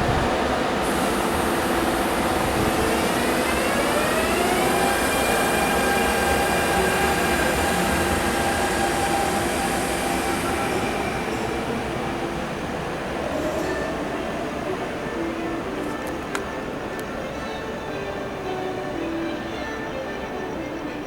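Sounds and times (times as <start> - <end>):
train rumbling: 0.0 - 21.0
traction motors whining: 0.3 - 21.0.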